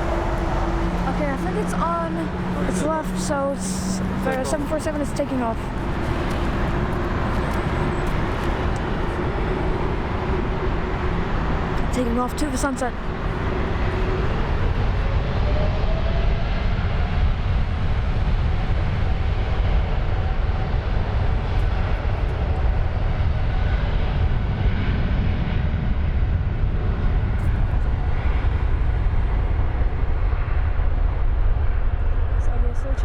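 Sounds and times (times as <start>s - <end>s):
faint engine whine: 0.0s - 33.0s
jet engines rumbling: 0.0s - 33.0s.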